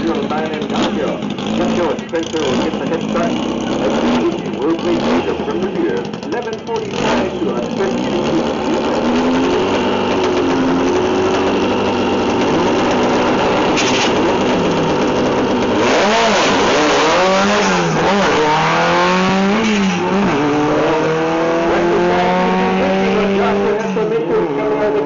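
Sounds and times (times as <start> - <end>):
car accelerating away: 0.0 - 25.0
drag racing car engines revving: 0.0 - 25.0.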